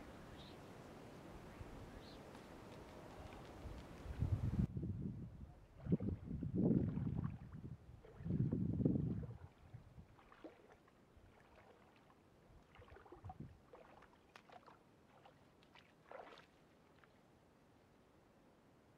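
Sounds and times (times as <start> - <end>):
small splashes of lake water: 0.1 - 4.2, 5.6 - 17.3.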